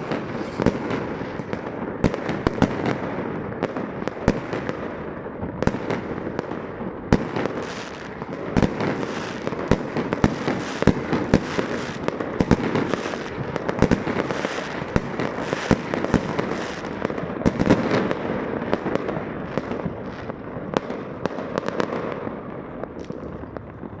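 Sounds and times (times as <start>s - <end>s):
firework bangs and pops: 0.0s - 24.0s
fireworks crackling: 0.0s - 24.0s
loud firework booms: 0.0s - 24.0s.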